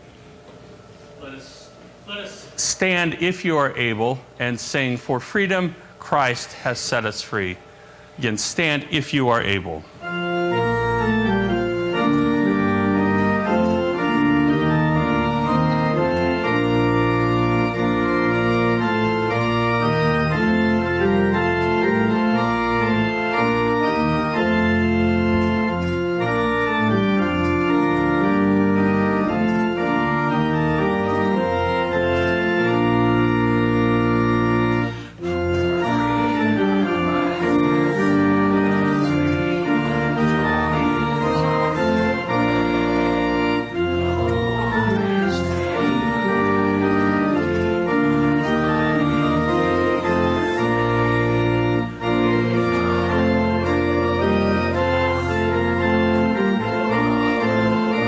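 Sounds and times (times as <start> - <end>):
organ playing a hymn: 2.2 - 58.0.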